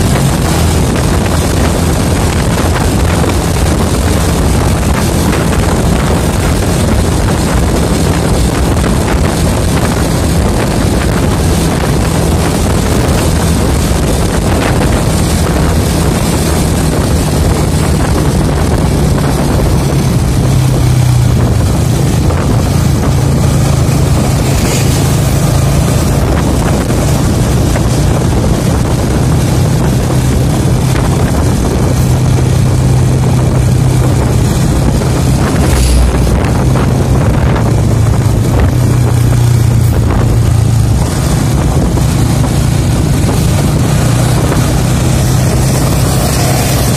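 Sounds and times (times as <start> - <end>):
car engine drone: 0.0 - 46.9
wind and road rush: 0.0 - 46.9.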